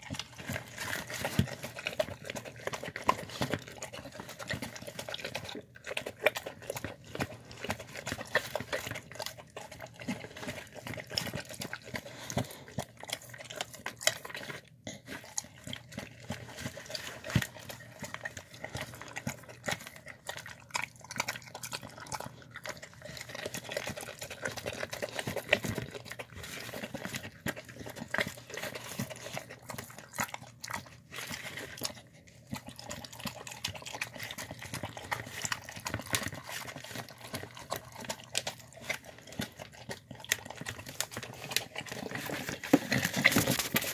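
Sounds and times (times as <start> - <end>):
dog chewing and licking food: 0.0 - 43.9.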